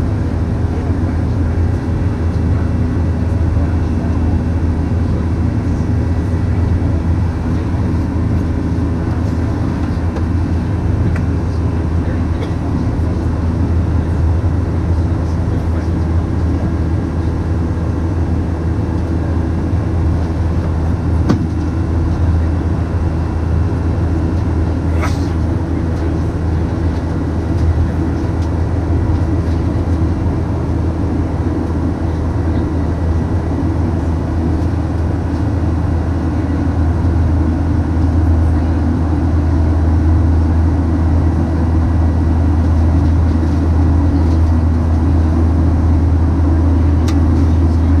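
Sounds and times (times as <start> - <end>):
airplane cabin drone: 0.0 - 48.0.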